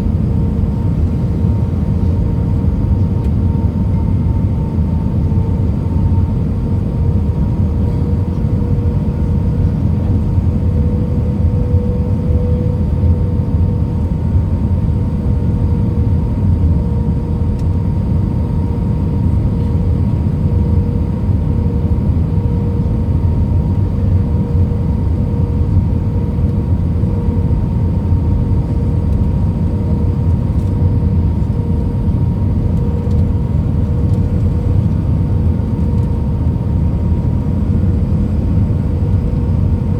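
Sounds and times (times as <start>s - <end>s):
droning whine: 0.0s - 39.9s
jet engine and airflow rumble: 0.0s - 39.9s.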